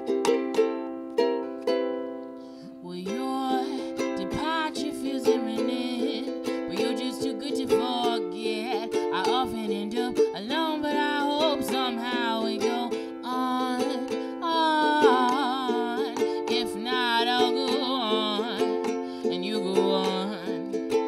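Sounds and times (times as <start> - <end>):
ukulele strumming chords: 0.0 - 21.0
woman singing: 2.6 - 21.0.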